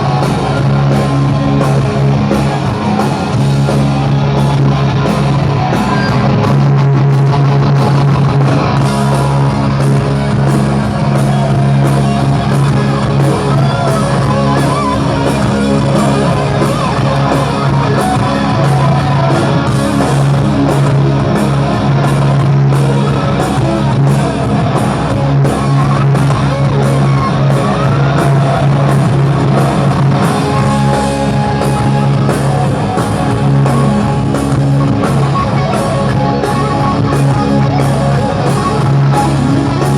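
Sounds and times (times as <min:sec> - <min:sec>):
bass guitar: 0:00.0 - 0:39.9
drums keeping a steady beat: 0:00.0 - 0:39.9
electric guitar: 0:00.0 - 0:39.9.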